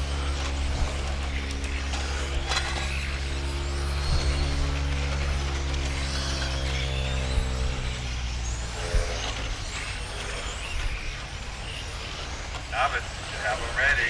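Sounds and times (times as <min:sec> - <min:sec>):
electric motors whining: 0:00.0 - 0:14.0
low hum: 0:00.0 - 0:14.0.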